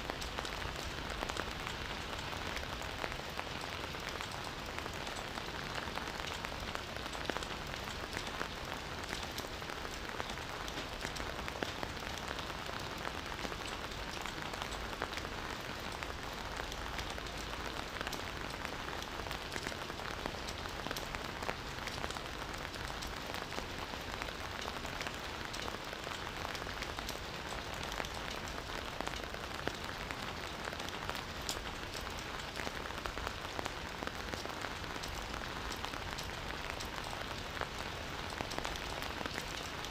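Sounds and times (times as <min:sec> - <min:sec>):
rain falling on foliage: 0:00.0 - 0:39.9
raindrops ticking: 0:00.1 - 0:39.9.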